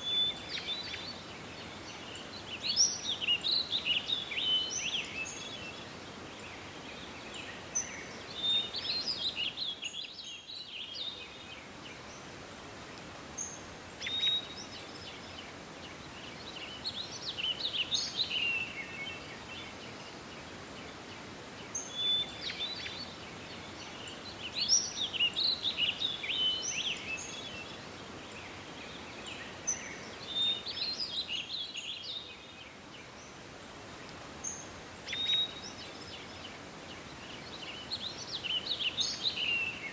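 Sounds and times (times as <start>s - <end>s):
outdoor background hiss: 0.0s - 39.9s
songbird chirping: 0.0s - 39.9s.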